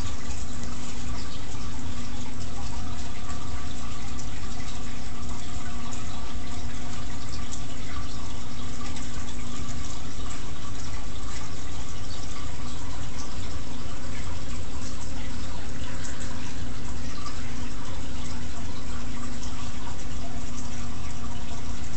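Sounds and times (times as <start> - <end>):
aquarium water bubbling: 0.0 - 21.9.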